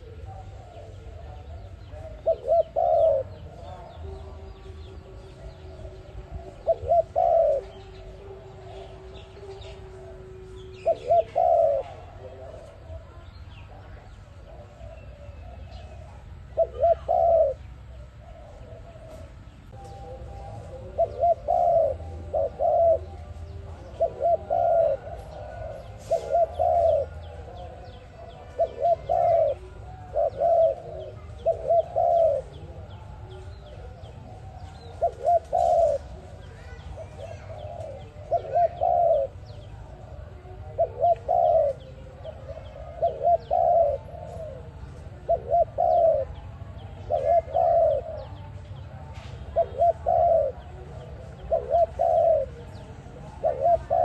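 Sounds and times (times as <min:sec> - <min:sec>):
dove cooing: 0:00.0 - 0:54.0
small birds chirping: 0:00.0 - 0:54.0.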